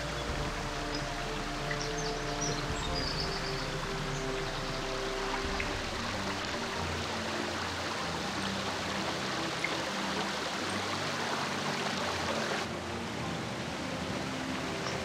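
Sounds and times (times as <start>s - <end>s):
stream babbling over stones: 0.0s - 15.0s.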